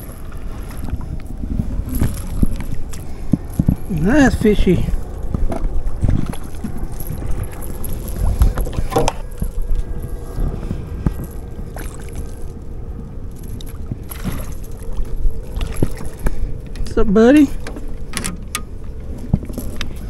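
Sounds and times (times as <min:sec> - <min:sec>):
faint steady hum: 0:00.0 - 0:20.0
water lapping at boat: 0:00.0 - 0:20.0
wind buffeting microphone: 0:00.0 - 0:20.0.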